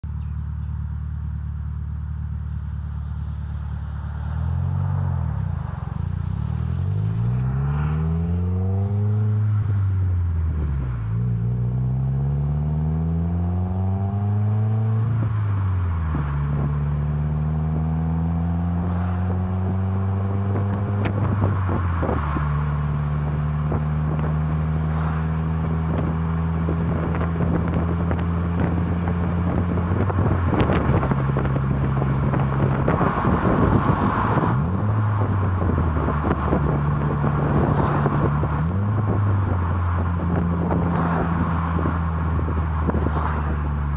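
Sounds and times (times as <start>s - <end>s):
car engine revving: 1.1s - 43.9s.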